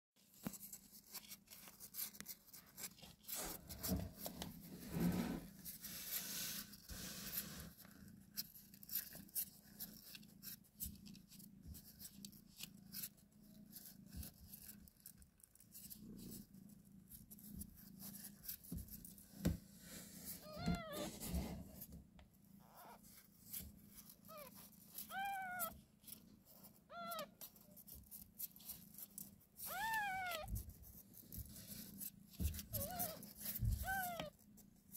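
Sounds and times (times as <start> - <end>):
soft rustling: 0.2 - 34.9.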